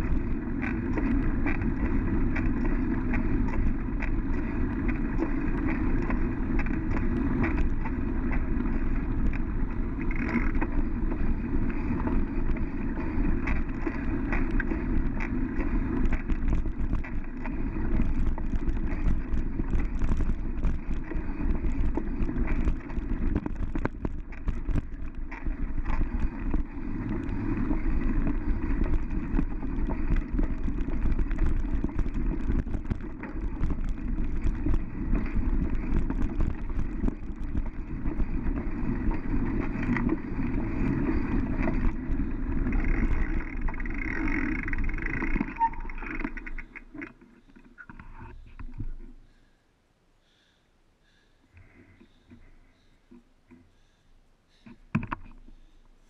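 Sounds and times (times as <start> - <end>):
bike clicks and rattles: 0.0 - 49.2
bike tyres rolling on dirt: 0.0 - 49.4.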